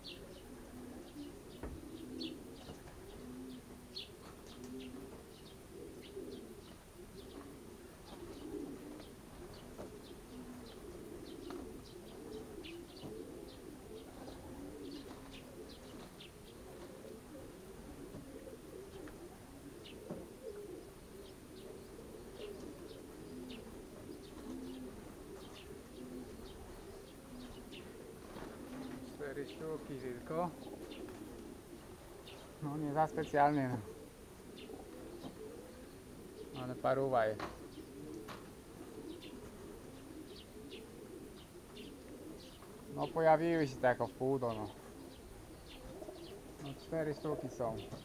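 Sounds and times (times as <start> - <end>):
pigeons cooing: 0.0 - 48.0
small birds chirping: 0.0 - 48.0.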